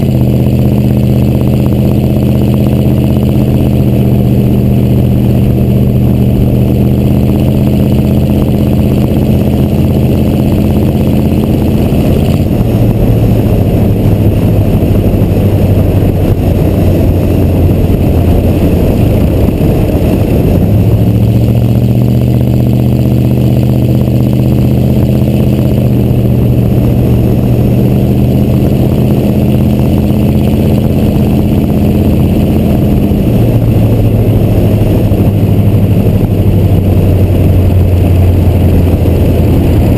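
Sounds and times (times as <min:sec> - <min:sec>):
diesel engine running loud: 0:00.0 - 0:39.9.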